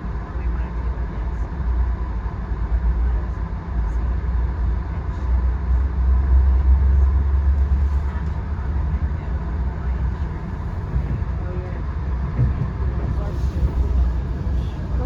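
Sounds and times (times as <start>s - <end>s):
passenger train rumbling: 0.0s - 15.0s.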